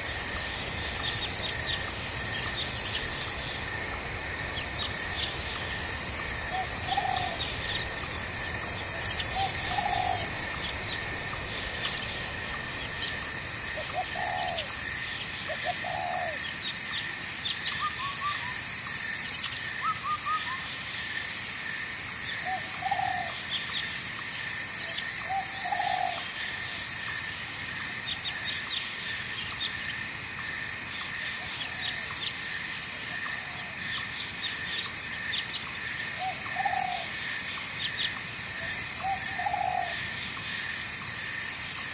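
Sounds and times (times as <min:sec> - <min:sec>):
insects chorus: 0:00.0 - 0:41.9.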